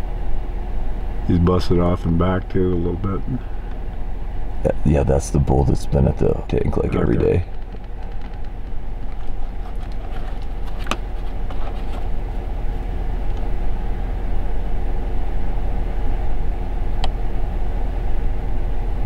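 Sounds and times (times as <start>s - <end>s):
vehicle engine idling: 0.0s - 18.3s.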